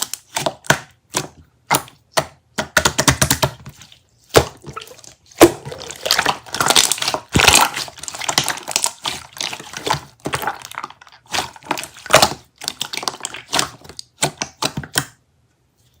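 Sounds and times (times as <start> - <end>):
jelly squished crackling: 0.0 - 15.2.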